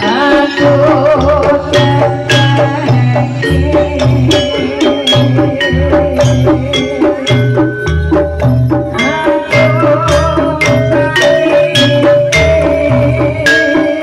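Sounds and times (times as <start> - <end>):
drums beating: 0.0 - 14.0
ringing struck metallic notes: 0.0 - 14.0
wavering sustained melody: 0.0 - 14.0
low pulsing bass: 0.7 - 13.5.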